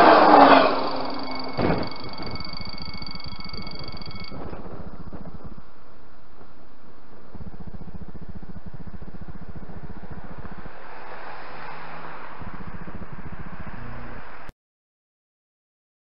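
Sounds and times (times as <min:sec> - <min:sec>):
car passing: 0:00.0 - 0:14.5
low fluttering rumble: 0:00.0 - 0:14.5.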